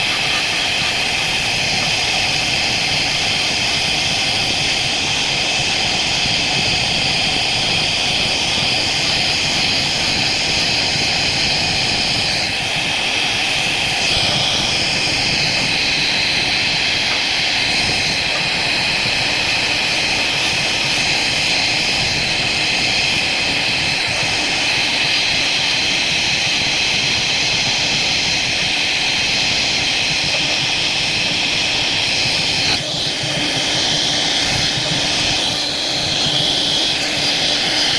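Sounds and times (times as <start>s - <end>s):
router spindle high-pitched whine: 0.0s - 37.9s.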